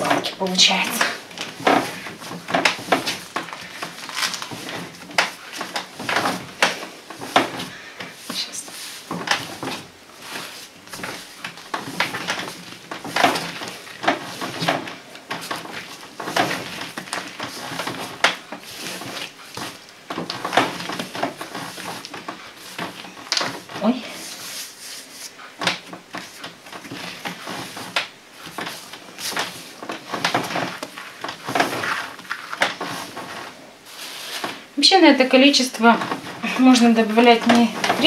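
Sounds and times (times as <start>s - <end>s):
hands kneading dough: 0.0s - 38.0s.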